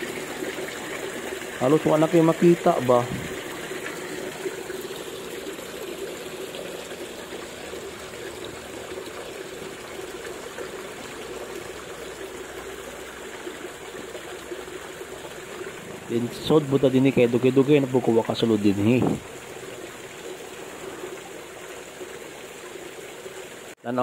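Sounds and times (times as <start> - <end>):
water trickling into a pond: 0.0 - 23.8.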